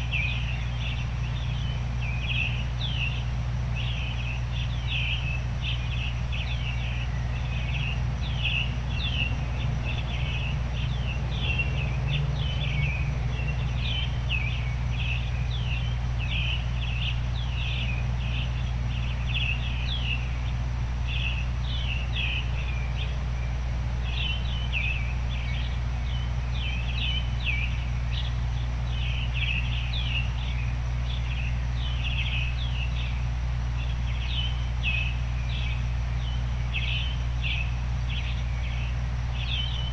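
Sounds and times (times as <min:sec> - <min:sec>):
small birds chirping: 0:00.0 - 0:39.9
steady low noise: 0:00.0 - 0:39.9.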